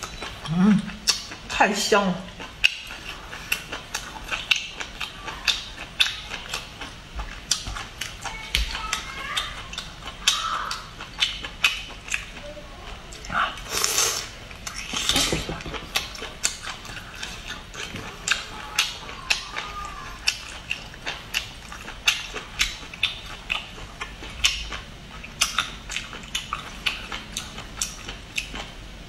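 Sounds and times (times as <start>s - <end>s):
person chewing wetly: 0.0s - 1.6s, 2.2s - 28.8s.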